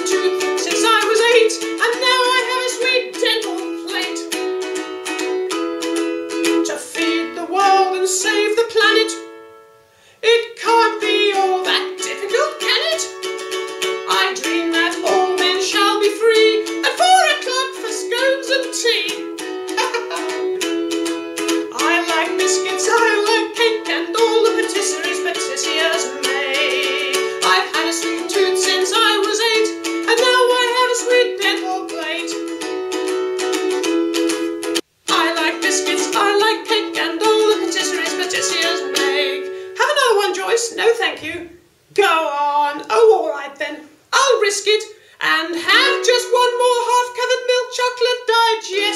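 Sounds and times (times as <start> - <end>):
person singing: 0.0 - 9.3, 10.2 - 34.5, 35.1 - 48.9
ukulele strumming: 0.0 - 43.5, 45.3 - 48.9.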